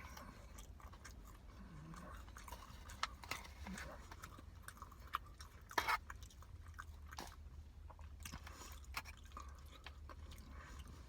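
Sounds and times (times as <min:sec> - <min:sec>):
crackle while chewing: 0:00.0 - 0:11.0
person chewing food: 0:00.0 - 0:11.0.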